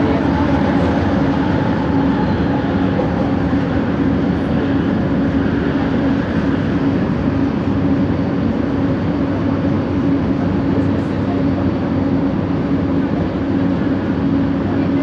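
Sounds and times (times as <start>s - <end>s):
train motor hum: 0.0s - 15.0s.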